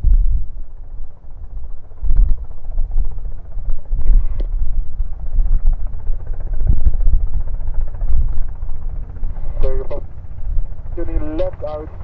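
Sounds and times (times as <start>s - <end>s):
wind rumble on microphone: 0.0s - 12.0s
helicopter engine and rotor: 0.2s - 12.0s.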